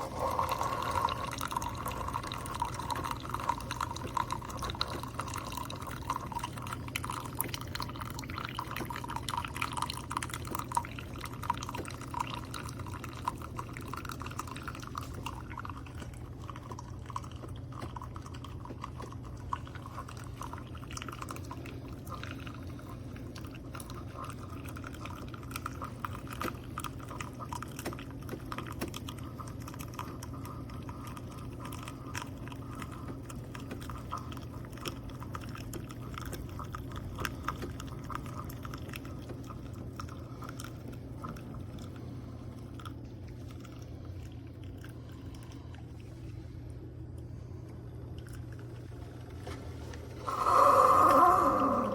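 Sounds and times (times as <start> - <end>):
coffee dripping into cup: 0.0 - 51.9
coffee maker pump hum: 0.0 - 51.9.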